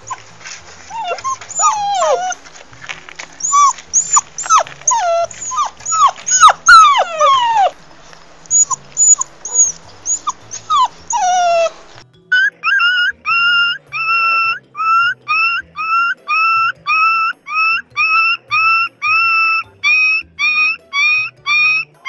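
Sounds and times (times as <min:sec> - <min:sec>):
dog whimpering and yelping: 0:00.0 - 0:22.0.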